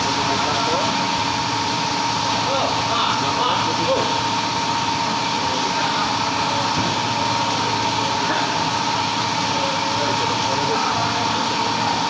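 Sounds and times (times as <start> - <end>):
machine running with high whine: 0.0 - 12.0.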